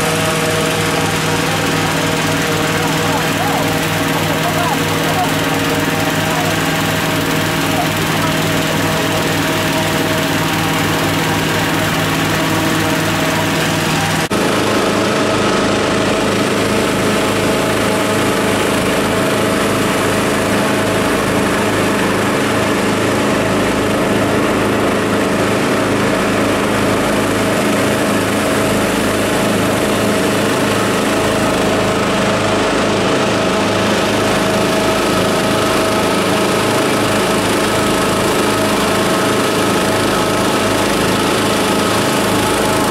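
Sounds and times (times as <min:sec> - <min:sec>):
inflator fan engine droning: 0:00.0 - 0:42.9.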